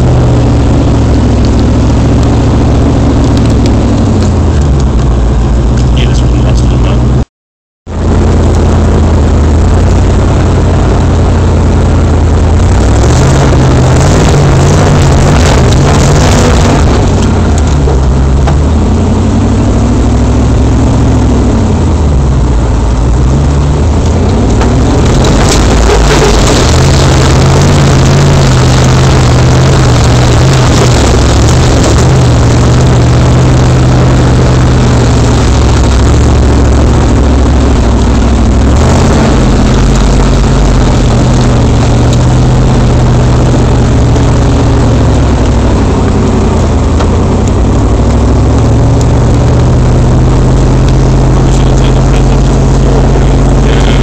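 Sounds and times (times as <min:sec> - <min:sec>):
off-road vehicle engine revving: 0:00.0 - 0:07.3, 0:07.9 - 0:54.0.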